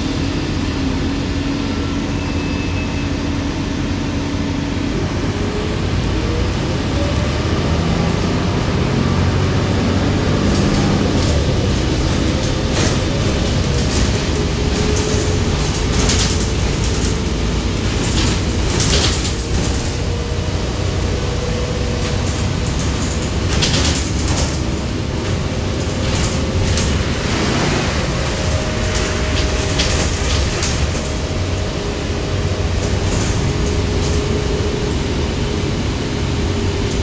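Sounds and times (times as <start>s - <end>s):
bus engine and road rumble: 0.0s - 37.0s.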